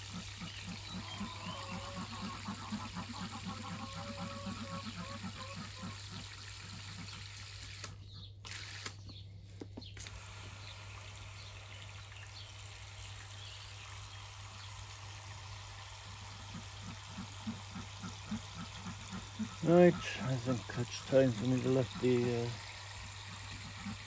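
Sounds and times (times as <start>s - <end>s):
water running: 0.0s - 9.0s, 10.0s - 24.0s.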